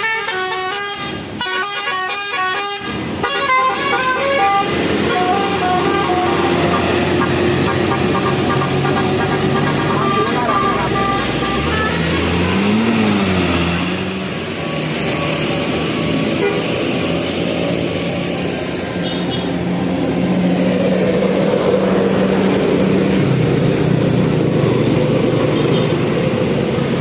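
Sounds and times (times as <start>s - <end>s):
bus engine running: 0.0s - 27.0s
road noise: 0.0s - 27.0s.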